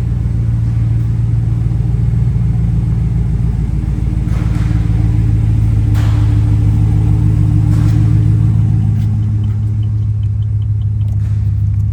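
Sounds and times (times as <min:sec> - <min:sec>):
truck engine idling: 0:00.0 - 0:11.9.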